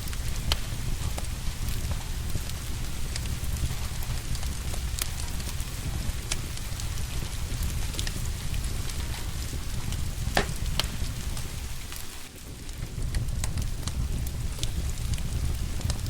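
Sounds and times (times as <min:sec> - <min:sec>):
rain hissing: 0:00.0 - 0:16.0
wood fire crackling and popping: 0:00.0 - 0:16.0.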